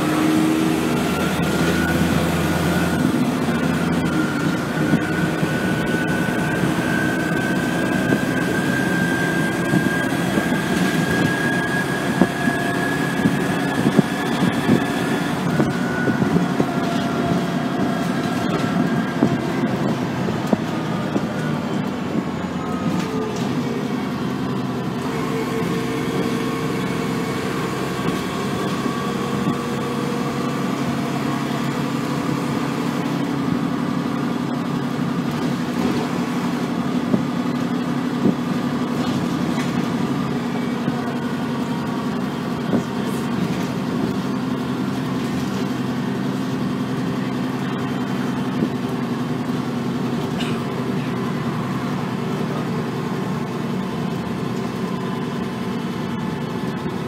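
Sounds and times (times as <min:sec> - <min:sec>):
bus body rattling: 0:00.0 - 0:57.0
bus engine drone with whine: 0:00.0 - 0:57.0.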